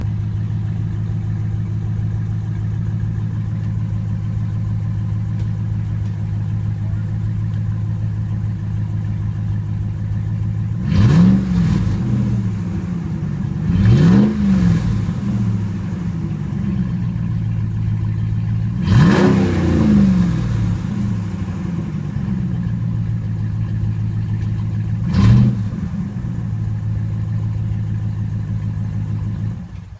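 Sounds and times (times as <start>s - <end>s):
pickup engine idling and revving: 0.0s - 29.9s.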